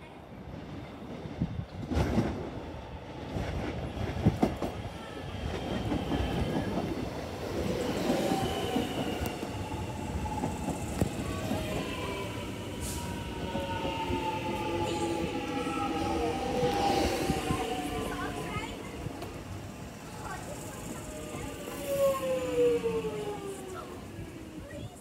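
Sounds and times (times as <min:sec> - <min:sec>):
train wheels rumbling on rail: 0:00.4 - 0:25.0.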